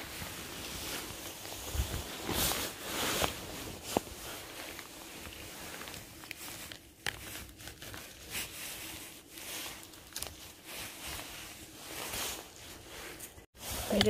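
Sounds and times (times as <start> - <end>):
rustling and crinkling: 0.0 - 14.0.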